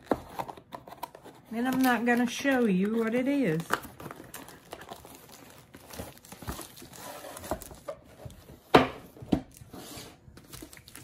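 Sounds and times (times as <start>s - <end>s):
plastic sleeve crinkling: 0.0s - 8.4s, 10.3s - 11.0s.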